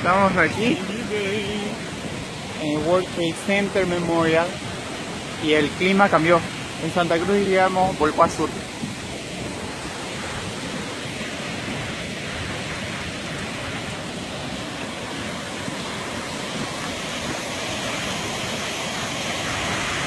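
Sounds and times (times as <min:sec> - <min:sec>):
falling rain: 0:00.0 - 0:20.0
waterfall rushing: 0:00.0 - 0:20.0.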